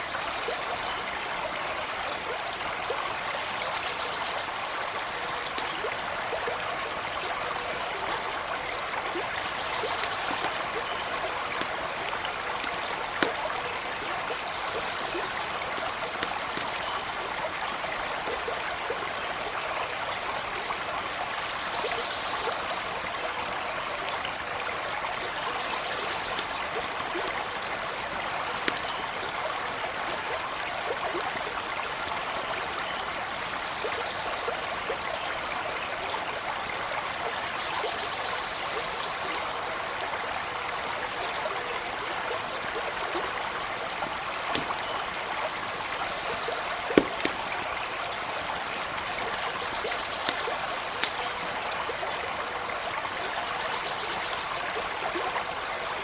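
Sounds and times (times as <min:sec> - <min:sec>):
campfire crackling: 0:00.0 - 0:56.0
stream trickling: 0:00.0 - 0:56.0.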